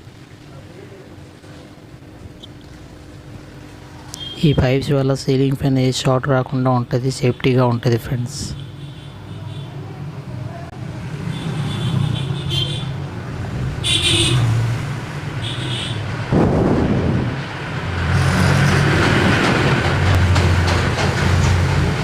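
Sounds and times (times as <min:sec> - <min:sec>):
traffic engines rumbling: 0:00.0 - 0:22.0.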